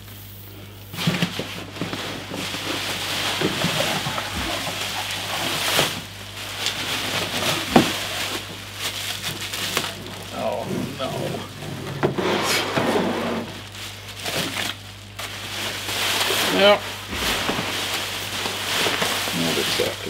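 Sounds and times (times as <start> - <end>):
bubble wrap rustling and crinkling: 0.9 - 20.0.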